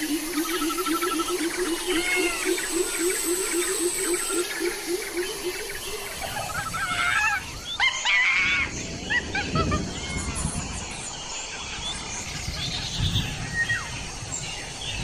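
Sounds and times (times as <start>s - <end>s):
birds chirping and warbling: 0.0s - 15.0s.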